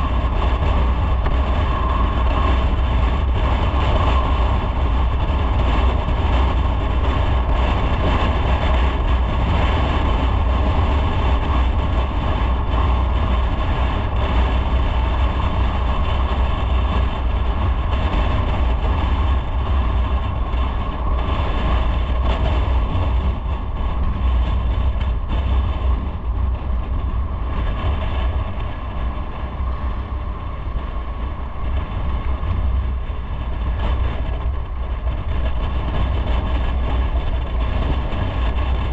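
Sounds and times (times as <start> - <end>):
motorcycle engine rumble: 0.0 - 38.9
road noise: 0.0 - 38.9
rushing wind: 0.0 - 38.9.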